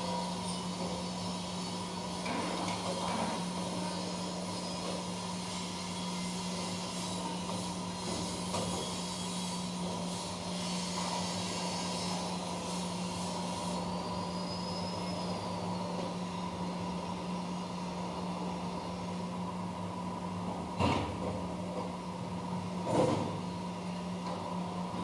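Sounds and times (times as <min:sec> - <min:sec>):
faint high motor whine: 0:00.0 - 0:25.0.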